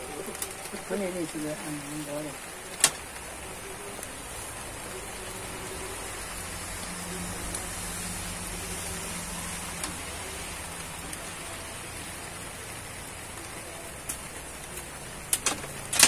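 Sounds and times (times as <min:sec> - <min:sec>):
rain pattering on leaves: 0:00.0 - 0:16.0.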